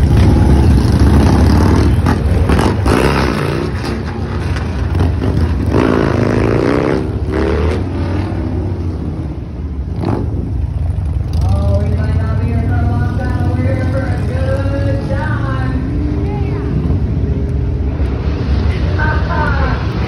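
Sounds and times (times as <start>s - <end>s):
motorcycle engine revving: 0.0s - 17.3s
motorcycle engines rumbling: 0.0s - 20.0s.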